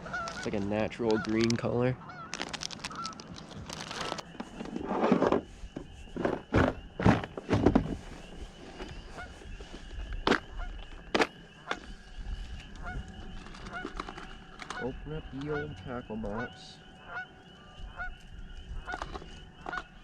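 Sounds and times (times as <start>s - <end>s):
geese honking: 0.0s - 4.9s, 8.7s - 20.0s.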